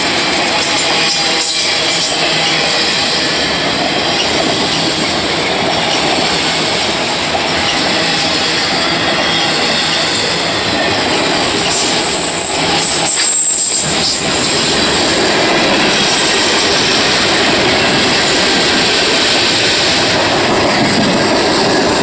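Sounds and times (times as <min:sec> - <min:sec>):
steel wheels running on rails: 0:00.0 - 0:22.0.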